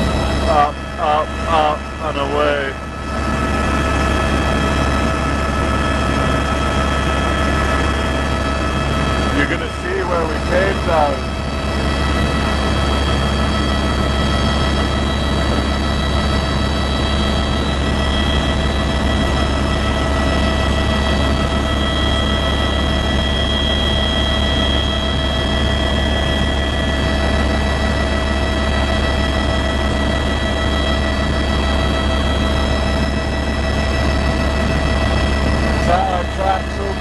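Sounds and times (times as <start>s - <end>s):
helicopter low drone: 0.0s - 37.0s
helicopter turbine whine: 0.0s - 37.0s.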